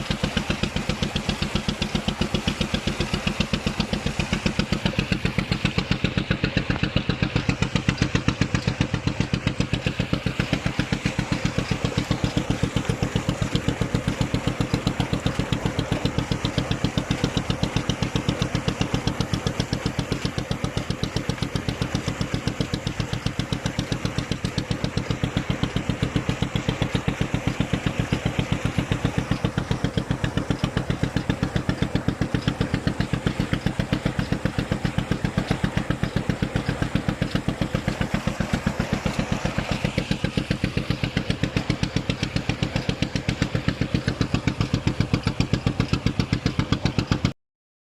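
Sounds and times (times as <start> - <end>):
engine idling: 0.0 - 47.4.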